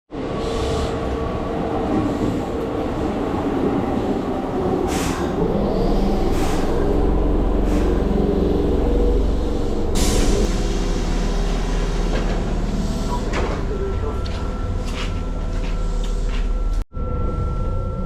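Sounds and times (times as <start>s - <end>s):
train rumble: 0.1s - 18.0s.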